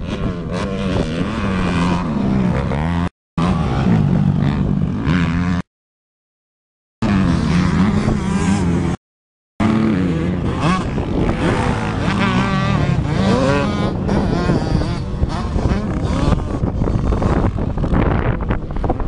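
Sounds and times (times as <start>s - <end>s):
dirt bike engines revving: 0.0s - 5.7s, 7.0s - 9.0s, 9.6s - 19.0s.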